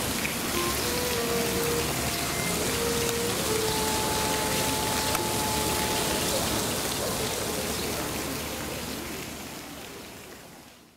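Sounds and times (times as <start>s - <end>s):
rushing water hiss: 0.0s - 10.9s.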